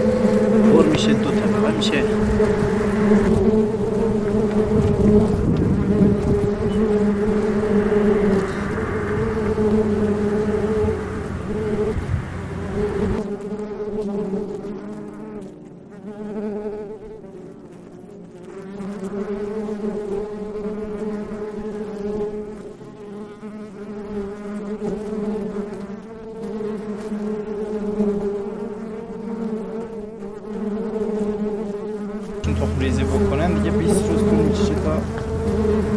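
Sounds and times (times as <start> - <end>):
honeybees buzzing: 0.0 - 35.9.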